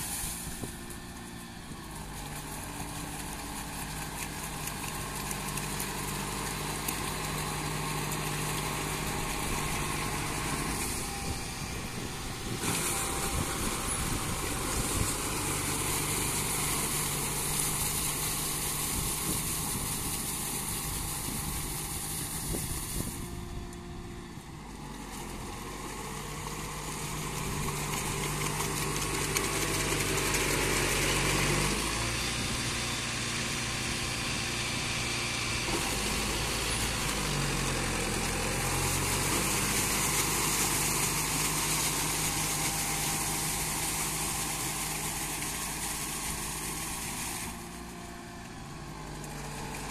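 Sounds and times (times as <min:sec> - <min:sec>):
diesel tractor engine under load: 0:00.0 - 0:49.9.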